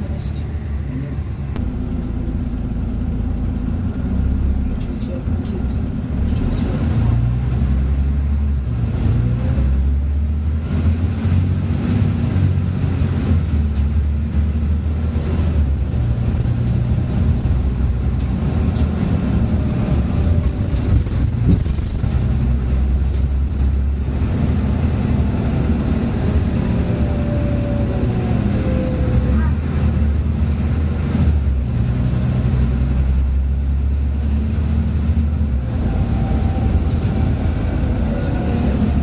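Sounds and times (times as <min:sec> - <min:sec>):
bus engine running: 0:00.0 - 0:39.0.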